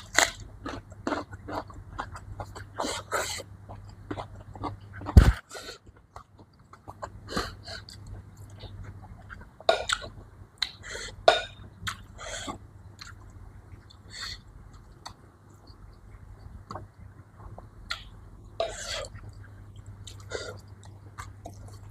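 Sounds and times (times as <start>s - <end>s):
person chewing: 0.0s - 21.9s.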